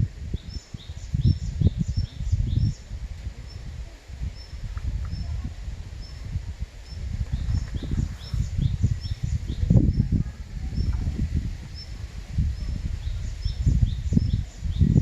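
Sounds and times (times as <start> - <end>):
wind gusting against microphone: 0.0 - 15.0
small birds chirping: 0.2 - 15.0.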